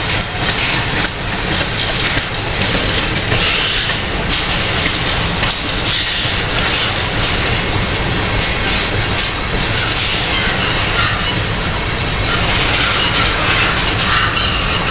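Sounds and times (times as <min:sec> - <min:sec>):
train wheels clicking on rails: 0:00.0 - 0:14.9.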